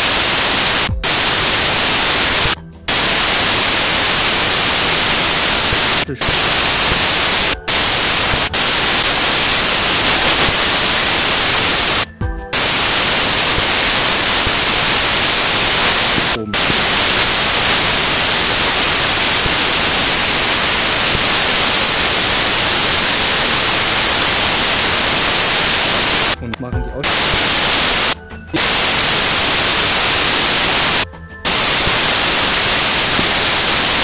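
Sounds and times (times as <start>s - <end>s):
static hiss: 0.0s - 34.0s.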